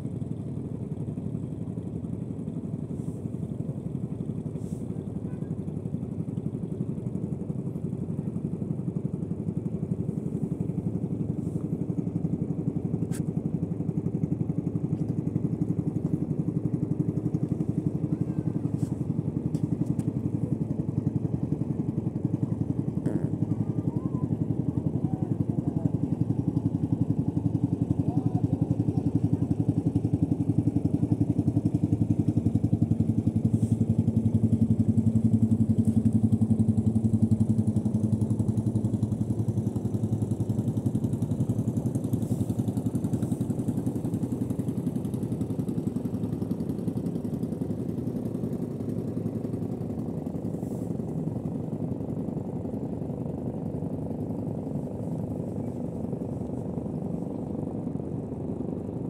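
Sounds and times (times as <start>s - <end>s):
motorboat engine putter: 3.7s - 59.0s.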